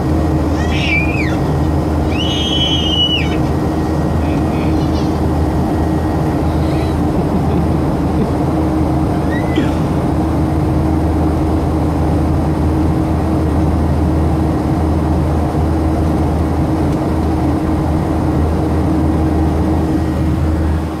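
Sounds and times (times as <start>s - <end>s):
constant low hum: 0.0s - 21.0s
jet engine and airflow drone: 0.0s - 21.0s.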